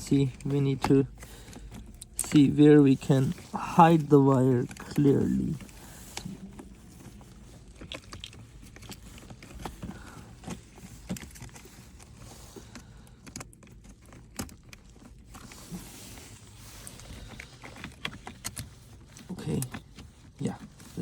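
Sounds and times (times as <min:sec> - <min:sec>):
hands handling wiring and plastic trim: 0:00.0 - 0:21.0.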